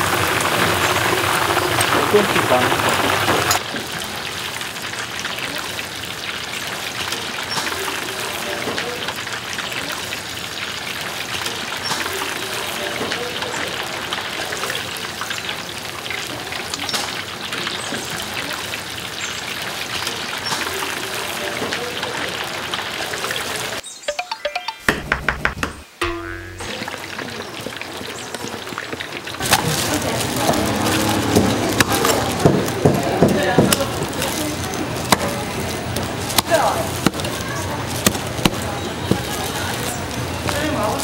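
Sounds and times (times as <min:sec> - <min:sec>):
oil sizzling in a deep fryer: 0:00.0 - 0:24.0, 0:26.0 - 0:41.0.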